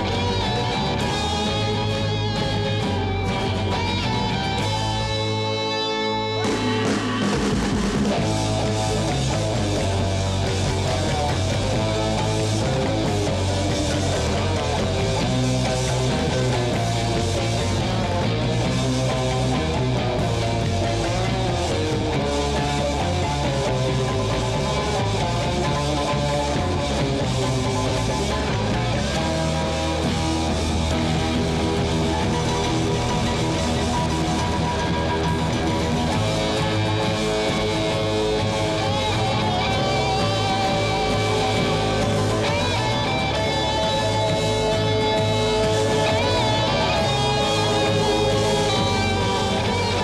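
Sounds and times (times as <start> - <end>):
rock band with electric guitar: 0.0 - 50.0.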